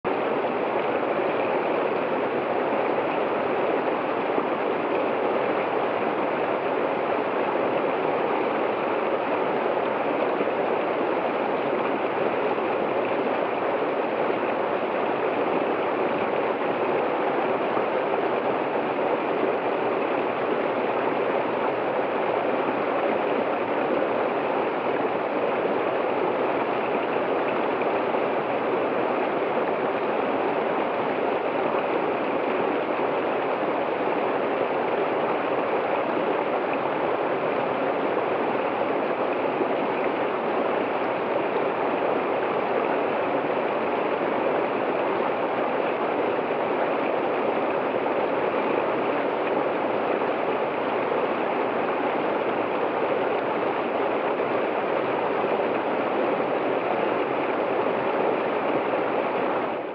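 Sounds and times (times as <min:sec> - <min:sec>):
waterfall rushing over rocks: 0:00.1 - 0:59.9.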